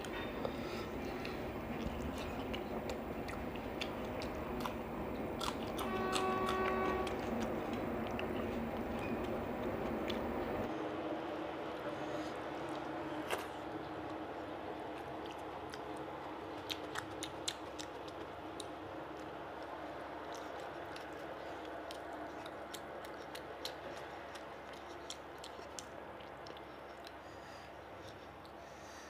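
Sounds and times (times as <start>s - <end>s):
close chewing: 0.0s - 10.7s, 11.7s - 29.0s.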